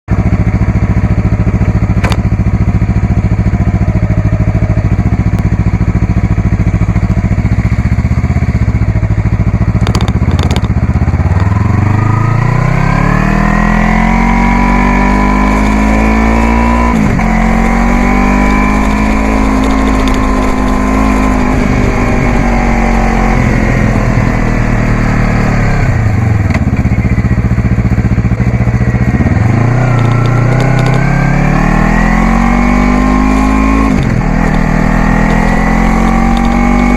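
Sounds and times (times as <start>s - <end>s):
motorcycle engine revving: 0.1s - 36.9s.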